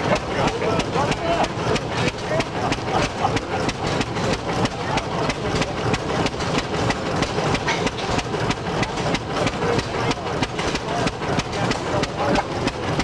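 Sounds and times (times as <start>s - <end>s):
gas engine running under load: 0.0s - 13.0s
mill grinding corn: 0.0s - 13.0s.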